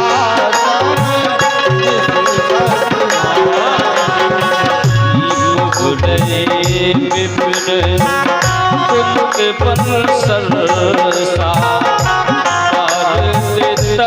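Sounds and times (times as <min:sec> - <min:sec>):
folk music with hand drums: 0:00.0 - 0:14.0.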